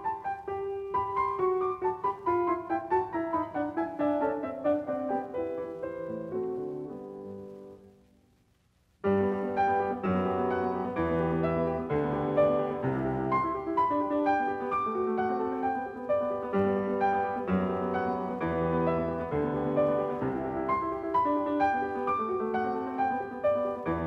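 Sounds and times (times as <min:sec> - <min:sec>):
background piano music: 0:00.0 - 0:08.1, 0:09.0 - 0:24.0.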